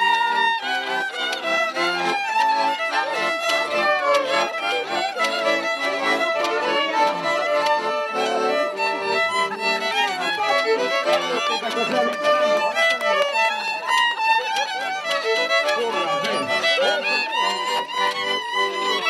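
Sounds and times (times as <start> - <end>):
violin-led folk band playing: 0.0 - 19.0.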